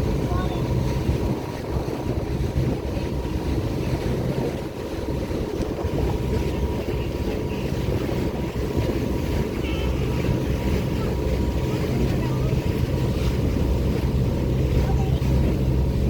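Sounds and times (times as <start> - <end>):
boat engine rumbling: 0.0 - 16.0
wind buffeting microphone: 0.0 - 16.0.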